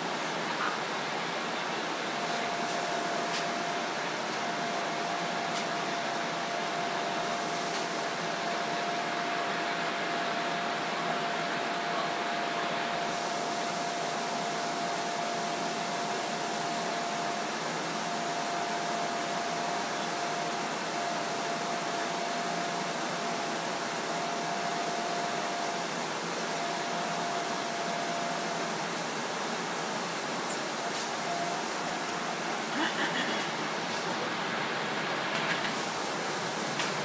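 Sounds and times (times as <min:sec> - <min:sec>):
bus ventilation and engine hum: 0:00.0 - 0:37.0
thin steady whine: 0:00.0 - 0:37.0.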